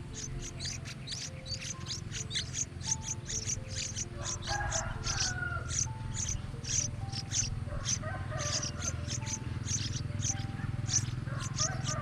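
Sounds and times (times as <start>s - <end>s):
high-pitched bird chirping: 0.0s - 12.0s
soft background music: 0.0s - 12.0s
steady low hum: 0.0s - 12.0s.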